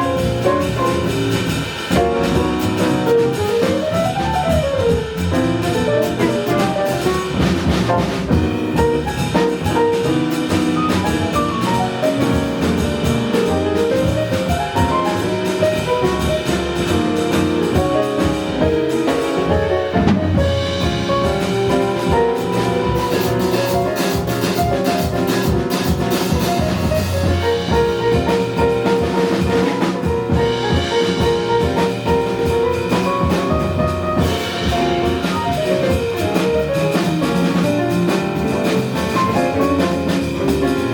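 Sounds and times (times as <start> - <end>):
drum kit keeping time: 0.0 - 40.9
jazz combo playing: 0.0 - 40.9.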